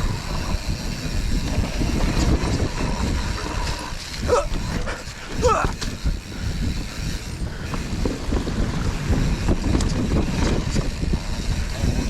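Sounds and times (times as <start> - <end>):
bike rattling and knocking: 0.0 - 12.0
wind buffeting microphone: 0.0 - 12.0.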